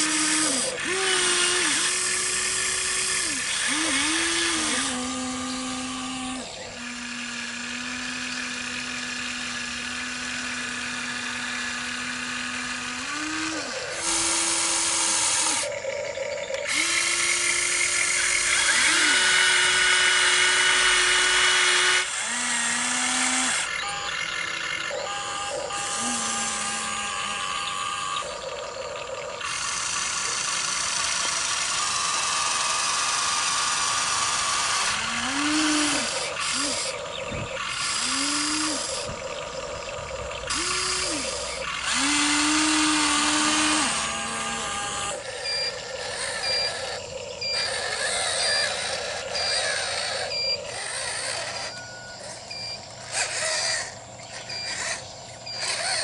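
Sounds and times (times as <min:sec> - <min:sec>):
electric motors whining: 0:00.0 - 0:56.0
gear grinding: 0:00.0 - 0:56.0.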